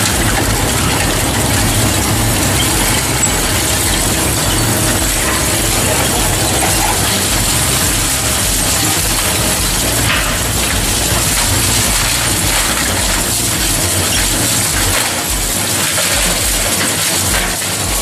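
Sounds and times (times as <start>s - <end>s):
industrial shredder grinding: 0.0s - 18.0s.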